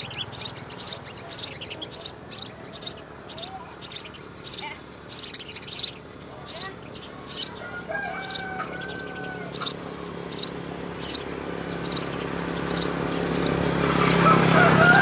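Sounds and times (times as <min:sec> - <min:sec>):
sparrow chirping: 0:00.0 - 0:15.0.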